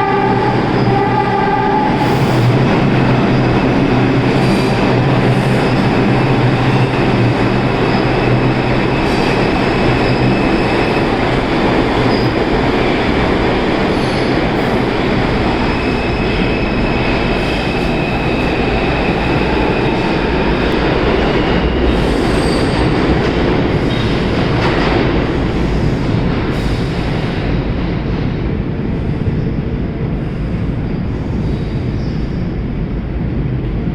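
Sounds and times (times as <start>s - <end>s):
subway train wheels rumbling on rails: 0.0s - 33.9s.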